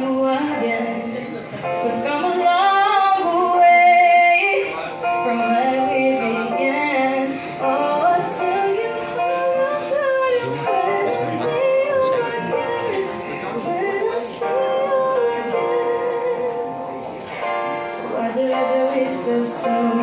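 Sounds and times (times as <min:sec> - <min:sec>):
woman singing over loudspeaker: 0:00.0 - 0:17.0, 0:18.0 - 0:20.0.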